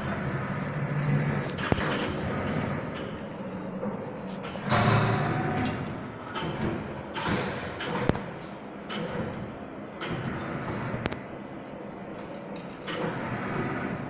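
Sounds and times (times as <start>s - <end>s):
wire bending machine whirring: 0.0s - 14.0s.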